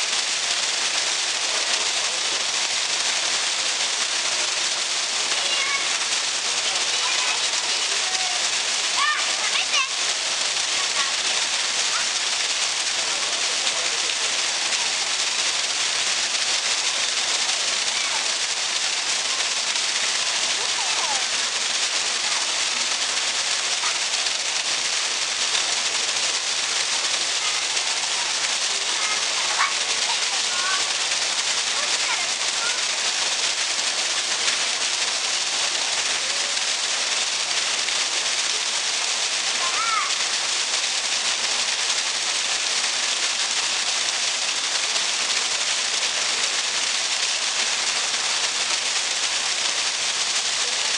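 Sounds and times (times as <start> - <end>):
water splashing into pool: 0.0 - 50.9.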